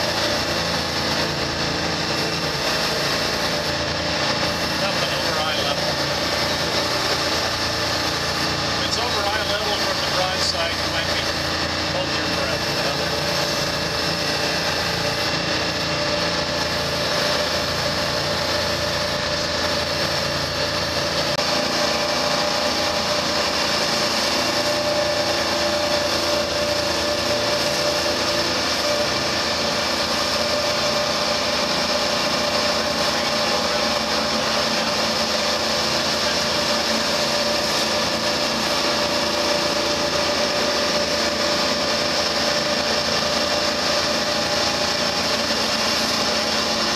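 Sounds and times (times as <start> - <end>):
boat diesel engines droning: 0.0 - 46.9
water splashing along hull: 0.0 - 46.9.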